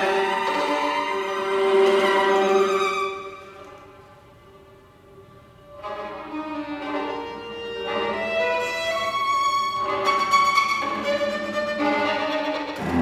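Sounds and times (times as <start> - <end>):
string quartet playing bowed notes: 0.0 - 4.2, 5.6 - 13.0.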